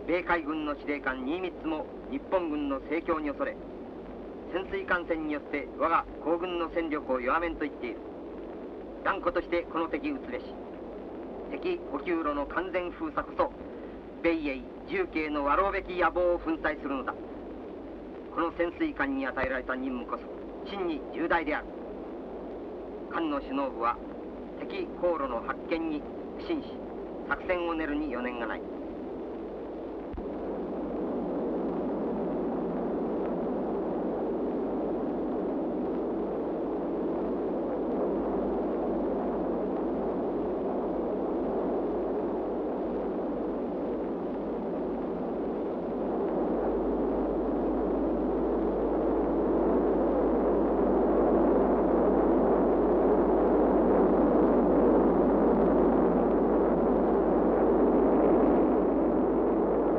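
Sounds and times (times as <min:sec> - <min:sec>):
submarine machinery rumble: 0:00.0 - 0:59.9.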